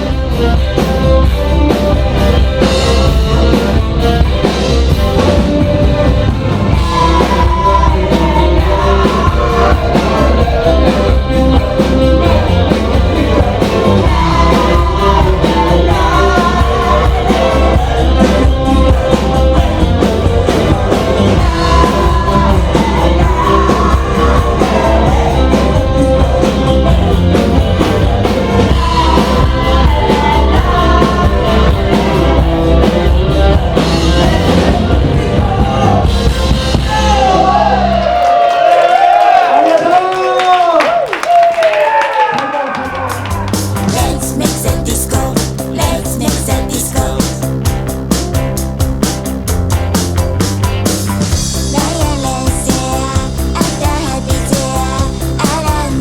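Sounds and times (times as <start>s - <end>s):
rock band with singer: 0.0s - 56.0s.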